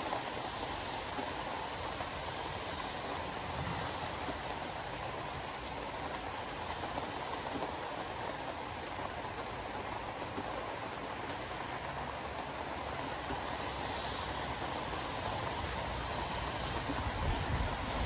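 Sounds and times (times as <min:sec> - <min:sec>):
car road noise on wet road: 0:00.0 - 0:18.0
rain on windshield: 0:00.0 - 0:18.0.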